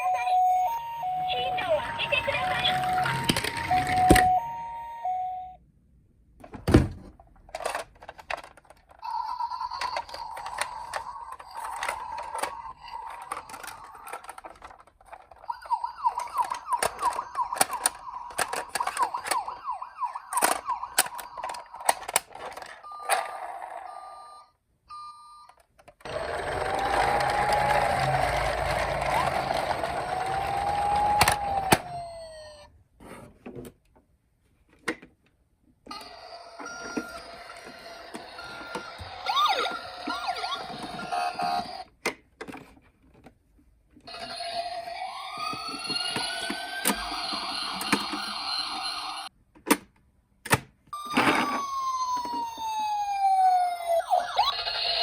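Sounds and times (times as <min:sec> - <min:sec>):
toy siren: 0:00.0 - 0:05.6, 0:09.0 - 0:32.7, 0:35.9 - 0:41.9, 0:44.1 - 0:49.3, 0:51.0 - 0:55.0.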